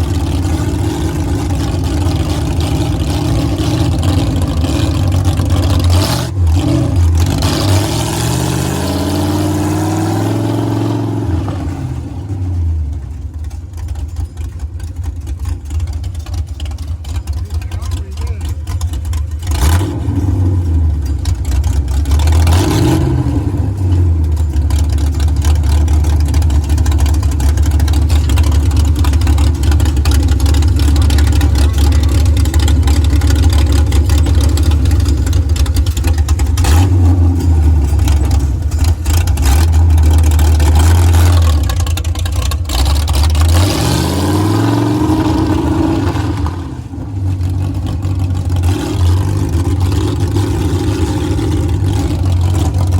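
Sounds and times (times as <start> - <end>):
monster truck engine revving: 0.0 - 52.9.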